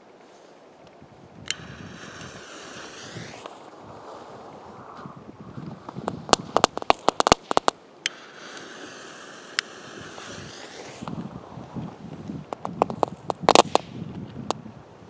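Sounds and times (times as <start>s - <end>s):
firework hissing: 0.0s - 14.1s
firework crack: 0.0s - 14.8s
firework crackling pops: 1.0s - 14.8s
firework bang: 1.5s - 14.2s.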